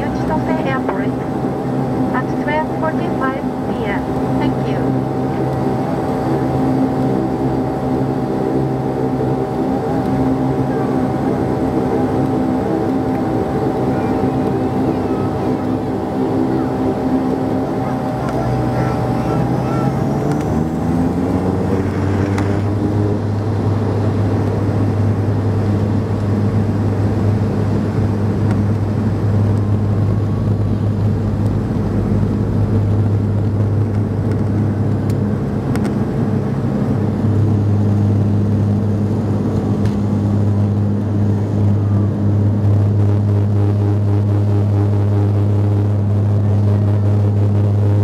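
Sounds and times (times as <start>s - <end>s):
propeller drone: 0.0s - 48.0s
wheels rumbling on runway: 0.0s - 48.0s.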